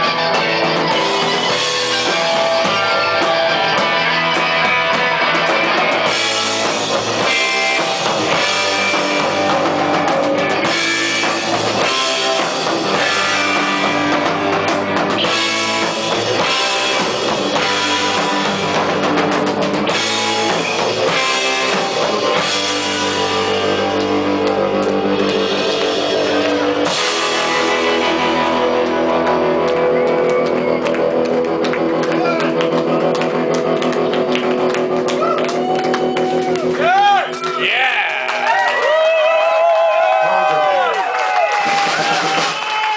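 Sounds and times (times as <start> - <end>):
drum kit: 0.0 - 42.9
electric guitars: 0.0 - 42.9.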